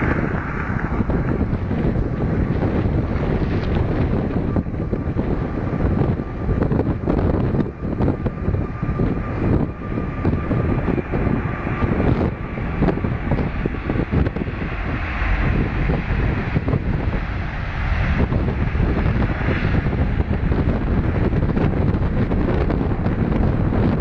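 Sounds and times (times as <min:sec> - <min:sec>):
jet engine roar: 0:00.0 - 0:24.0
wind buffeting microphone: 0:00.0 - 0:24.0.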